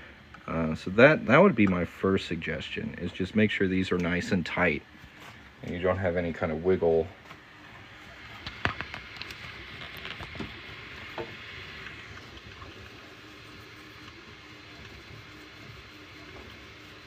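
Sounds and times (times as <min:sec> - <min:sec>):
faint motor hum: 0:00.0 - 0:17.0
printer fan hiss: 0:00.0 - 0:17.0.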